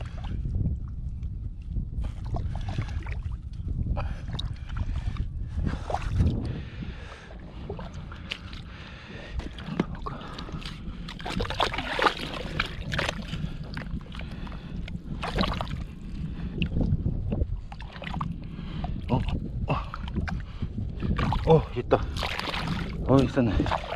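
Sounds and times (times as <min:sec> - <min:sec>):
steady low rumble: 0:00.0 - 0:23.9.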